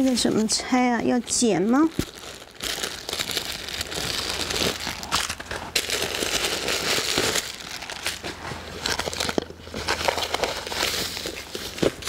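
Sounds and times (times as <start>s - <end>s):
packing stuffing crinkling: 1.4s - 12.0s.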